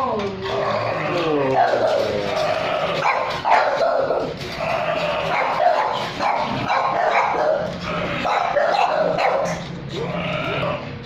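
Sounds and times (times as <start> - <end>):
dogs barking and yipping: 0.4 - 10.5.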